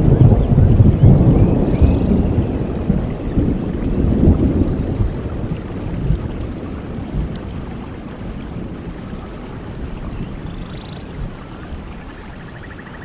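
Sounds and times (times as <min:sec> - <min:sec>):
low rumble of thunder: 0:00.0 - 0:13.0
steady rain falling: 0:00.0 - 0:13.0.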